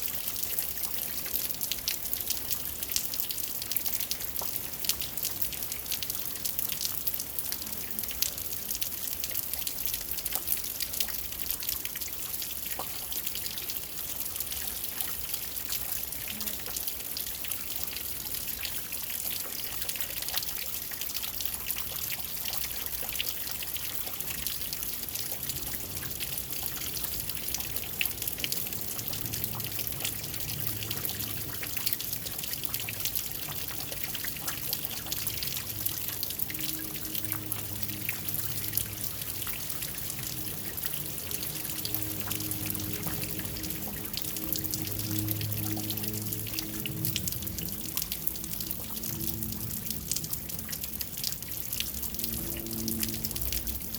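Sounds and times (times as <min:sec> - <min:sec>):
rain patter: 0:00.0 - 0:53.9
water trickling and dripping: 0:00.0 - 0:53.9.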